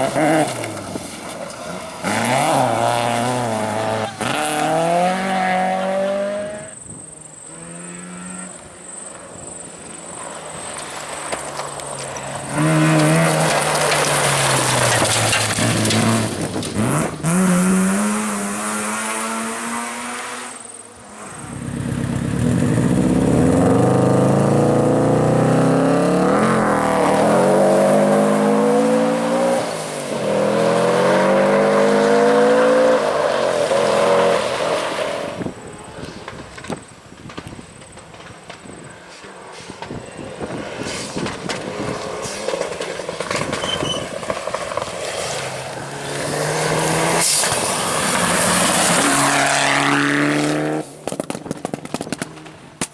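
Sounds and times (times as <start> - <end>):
rally car engines revving: 0.0 - 36.8, 38.2 - 52.9.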